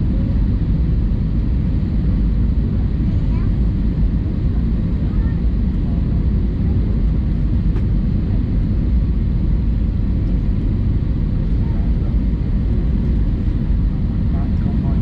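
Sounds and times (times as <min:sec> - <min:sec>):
airplane engines roaring in cabin: 0:00.0 - 0:15.0.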